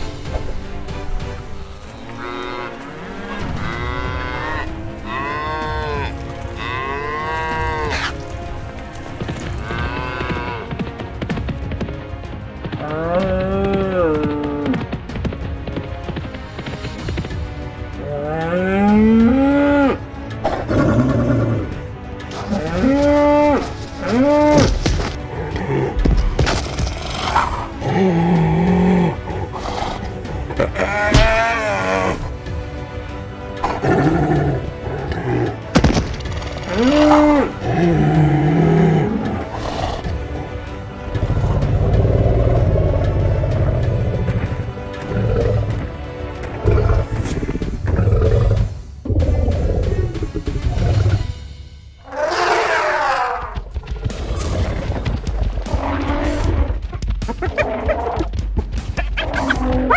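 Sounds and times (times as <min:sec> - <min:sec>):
background music: 0:00.0 - 0:59.9.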